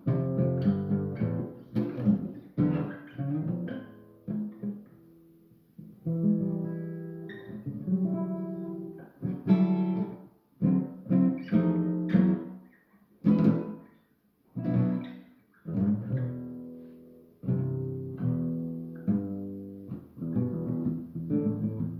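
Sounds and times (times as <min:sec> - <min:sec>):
guitar plucked and strummed: 0:00.0 - 0:21.9.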